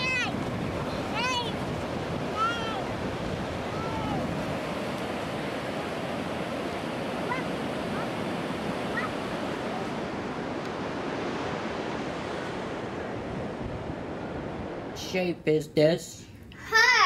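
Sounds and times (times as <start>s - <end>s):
waves breaking on a beach: 0.0s - 15.2s.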